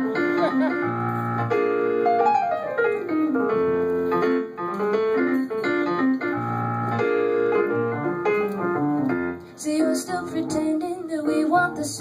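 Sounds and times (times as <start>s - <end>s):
piano playing: 0.0s - 12.0s.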